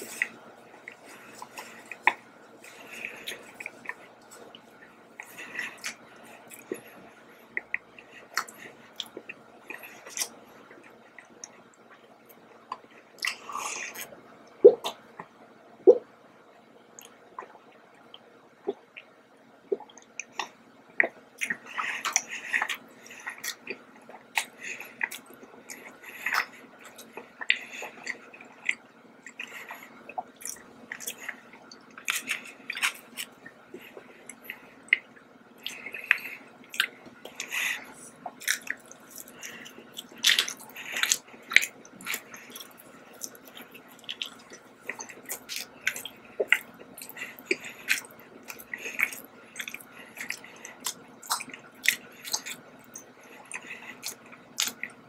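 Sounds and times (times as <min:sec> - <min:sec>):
chewing with wet mouth clicks: 0:00.0 - 0:15.3, 0:17.0 - 0:19.1, 0:19.7 - 0:55.0.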